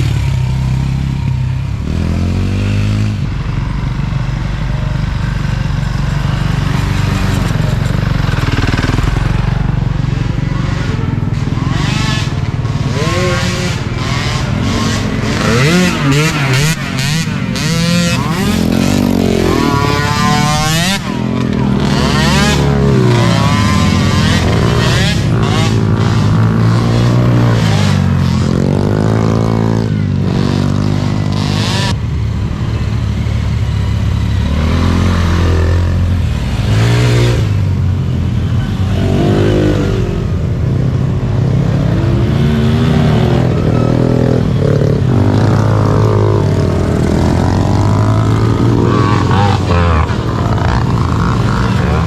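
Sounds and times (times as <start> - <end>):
small atv engines racing: 0.0 - 52.0.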